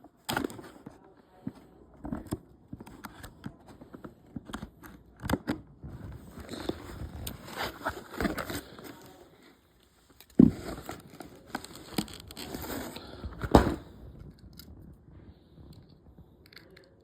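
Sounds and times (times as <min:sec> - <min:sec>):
plastic and cardboard crackling: 0:00.1 - 0:14.8.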